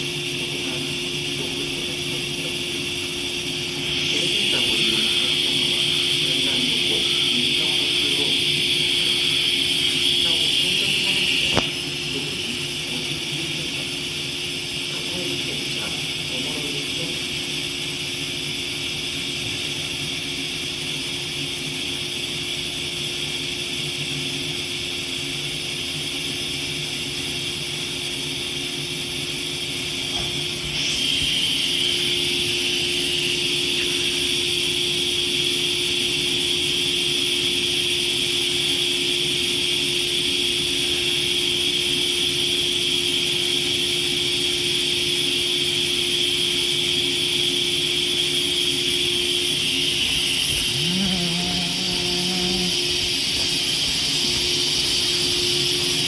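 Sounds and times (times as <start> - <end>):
electric train idling hum: 0.0 - 56.0
high whine: 0.0 - 56.0.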